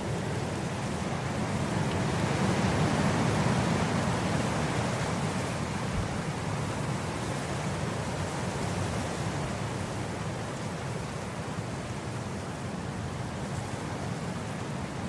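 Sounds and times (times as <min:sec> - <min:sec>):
wind blowing across grass: 0:00.0 - 0:15.0.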